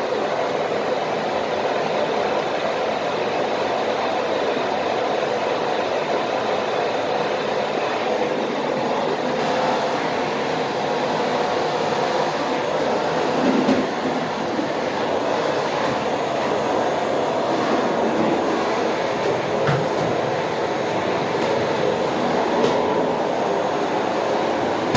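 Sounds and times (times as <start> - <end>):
vacuum cleaner running: 0.0 - 24.9.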